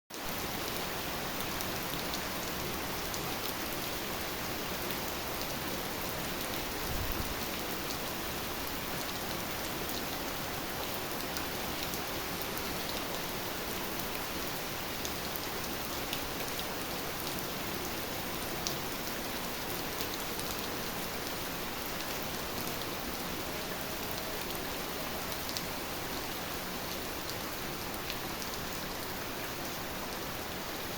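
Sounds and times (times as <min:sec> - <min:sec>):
heavy rain: 0:00.1 - 0:30.9.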